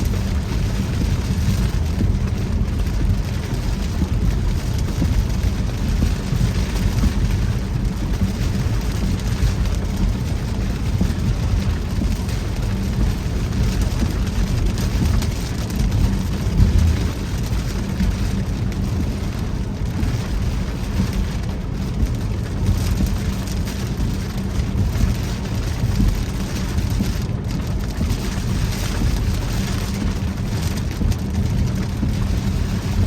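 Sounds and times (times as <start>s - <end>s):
rain hissing on truck: 0.0s - 33.0s
tyres rumbling on wet road: 0.0s - 33.0s.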